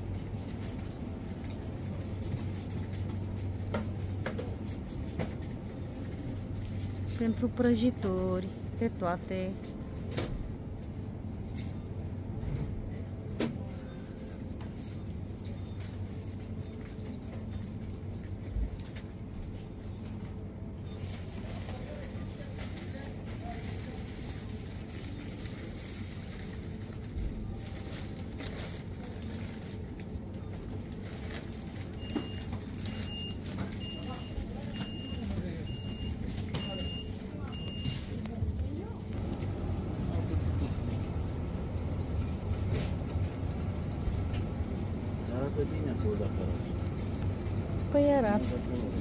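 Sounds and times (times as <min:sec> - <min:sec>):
low hum and rumble: 0:00.0 - 0:49.0.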